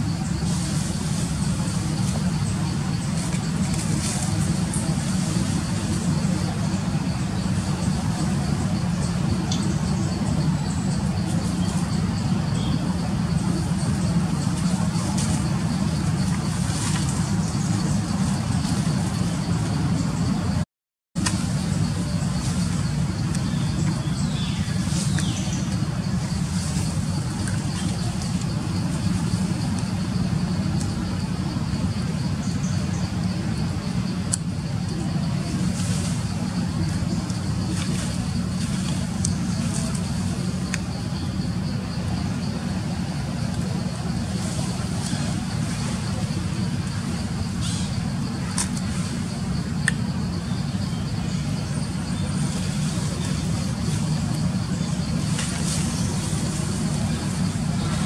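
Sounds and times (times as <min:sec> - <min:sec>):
faint high insect drone: 0:00.0 - 0:20.6, 0:21.2 - 0:58.0
low background rumble: 0:00.0 - 0:20.6, 0:21.2 - 0:58.0.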